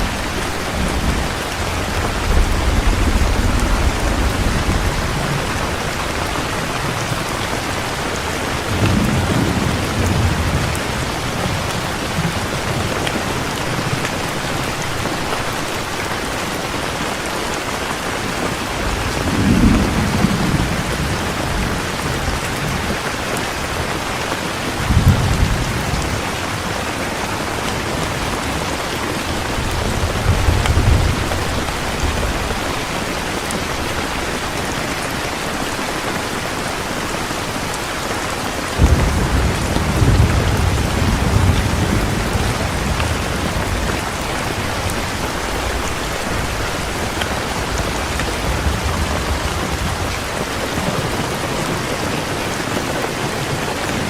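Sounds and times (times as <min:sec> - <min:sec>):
thunder rumbling: 0:00.0 - 0:15.9, 0:18.3 - 0:34.7, 0:38.6 - 0:54.0
heavy rain: 0:00.0 - 0:54.0.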